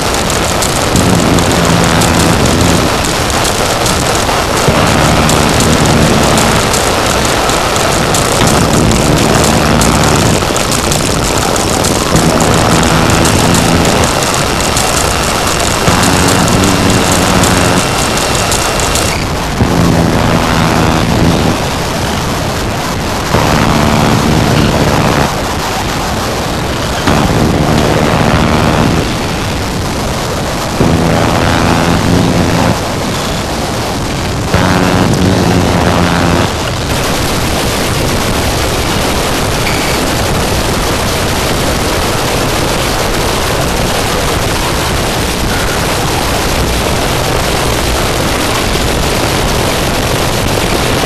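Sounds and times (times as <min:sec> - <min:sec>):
distorted static noise: 0:00.0 - 0:51.0
low droning hum: 0:00.0 - 0:51.0.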